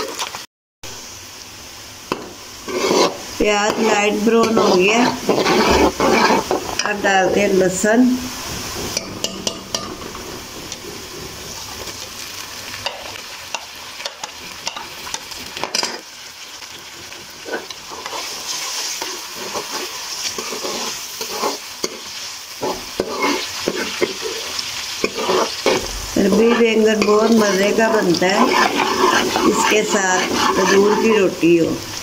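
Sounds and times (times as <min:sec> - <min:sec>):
onions sizzling in hot oil: 0:00.0 - 0:32.0
ladle scraping pan: 0:02.1 - 0:16.0, 0:17.3 - 0:31.4.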